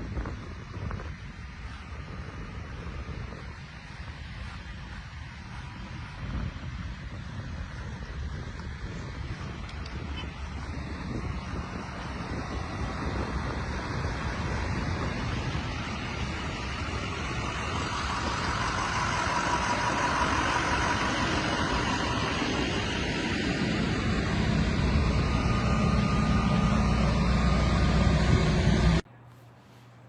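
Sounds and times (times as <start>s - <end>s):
car engines rumbling: 0.0s - 30.0s.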